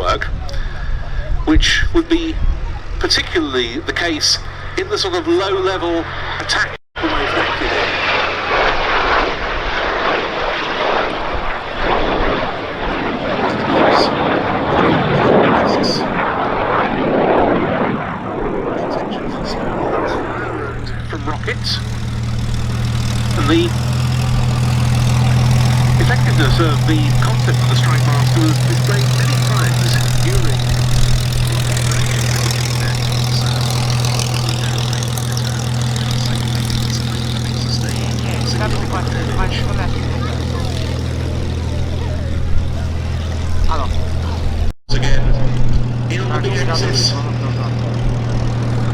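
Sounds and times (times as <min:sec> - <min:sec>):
constant low hum: 0:00.0 - 0:48.9
jet aircraft roar: 0:00.0 - 0:48.9.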